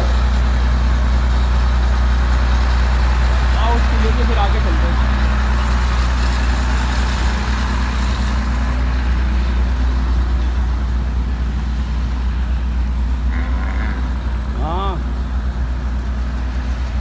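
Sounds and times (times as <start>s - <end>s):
engine idling hum: 0.0s - 17.0s
outdoor noise: 0.0s - 17.0s.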